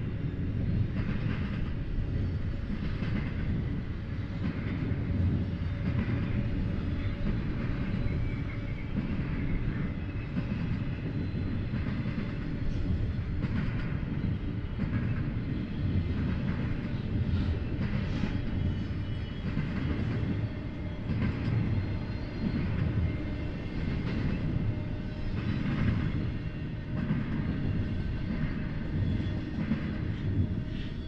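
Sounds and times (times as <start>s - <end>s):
steel wheels rumbling on rail: 0.0s - 31.0s.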